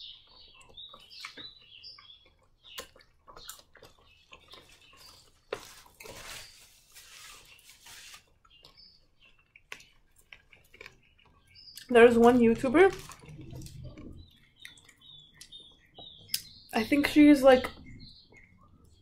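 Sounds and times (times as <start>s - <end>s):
crunching fried chicken: 0.0s - 16.5s.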